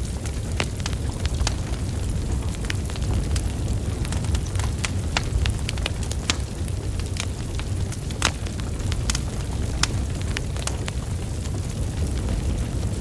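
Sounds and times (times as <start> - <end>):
burning logs crackling: 0.0 - 13.0
low rumble of flames: 0.0 - 13.0
sharp pops from fire: 0.1 - 12.2.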